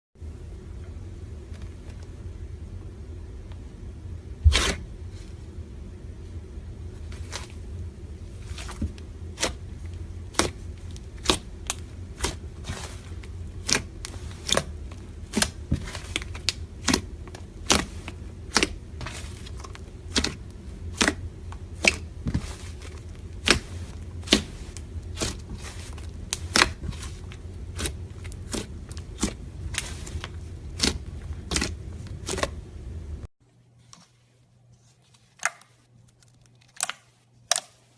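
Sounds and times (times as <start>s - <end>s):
low steady hum: 0.2s - 37.9s.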